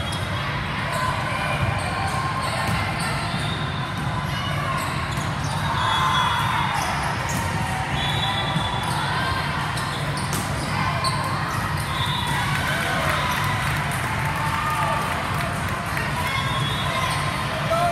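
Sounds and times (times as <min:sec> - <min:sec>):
echoing hubbub of voices: 0:00.0 - 0:17.9.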